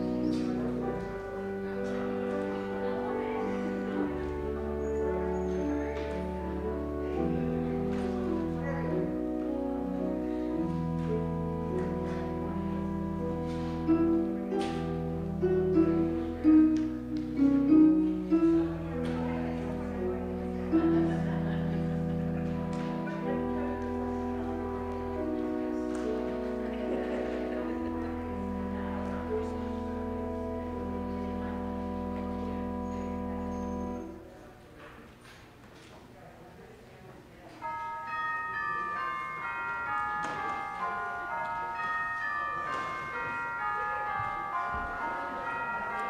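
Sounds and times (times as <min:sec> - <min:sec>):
church organ chords: 0:00.0 - 0:35.2, 0:37.4 - 0:46.0.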